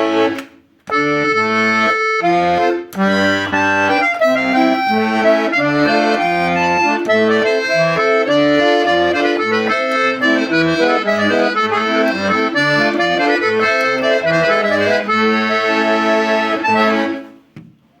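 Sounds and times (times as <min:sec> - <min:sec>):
accordion playing a tune: 0:00.0 - 0:17.5.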